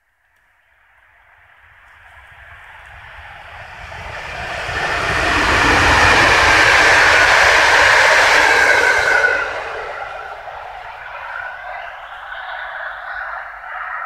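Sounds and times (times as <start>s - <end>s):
higher hum from train: 0.7s - 14.0s
train wheels on rail: 1.6s - 14.0s.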